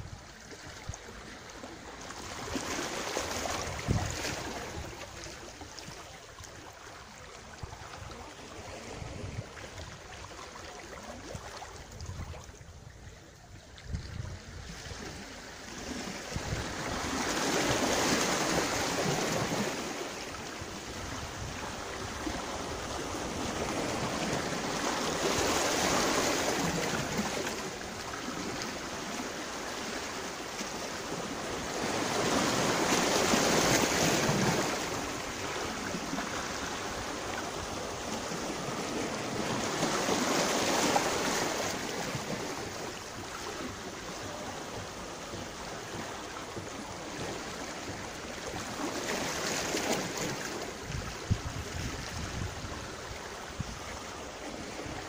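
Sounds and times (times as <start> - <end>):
waves washing on sandy shore: 0.0 - 55.0.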